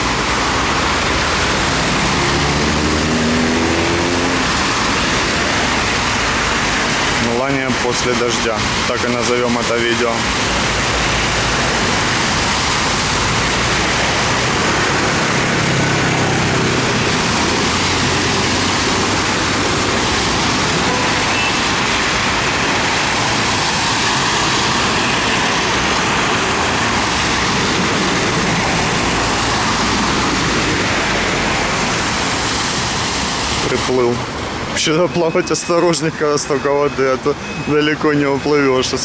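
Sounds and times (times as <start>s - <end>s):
car engines running: 0.0s - 37.6s
tyres splashing through floodwater: 0.0s - 39.0s.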